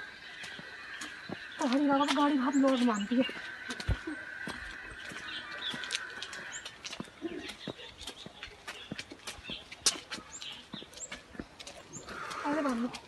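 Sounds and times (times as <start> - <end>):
bird chirps: 0.0 - 12.9
footsteps on brick path: 0.0 - 13.0.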